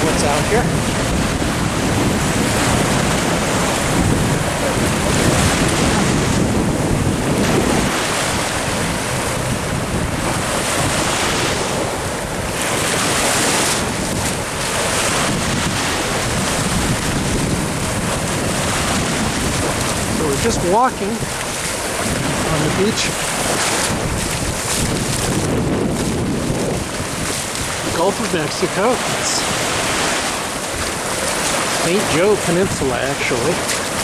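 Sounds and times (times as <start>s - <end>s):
surf washing on beach: 0.0s - 34.0s
wind buffeting microphone: 0.0s - 34.0s.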